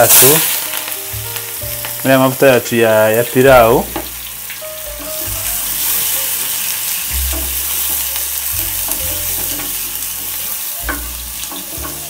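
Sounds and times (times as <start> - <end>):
onions and garlic sizzling: 0.0 - 12.0.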